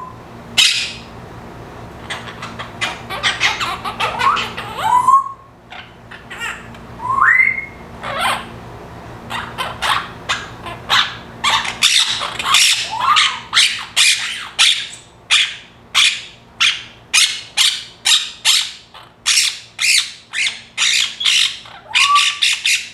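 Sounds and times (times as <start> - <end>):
parrot whistling: 0.0 - 1.1, 2.0 - 8.5, 9.3 - 22.9
parrot squawking: 0.6 - 1.1, 2.0 - 8.6, 9.3 - 22.9.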